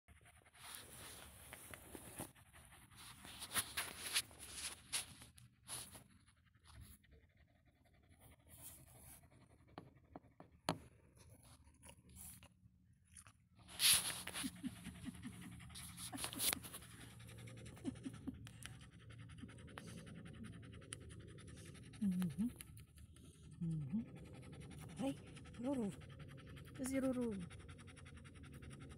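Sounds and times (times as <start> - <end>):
dog panting and snuffling: 0.1 - 12.6, 13.2 - 28.9.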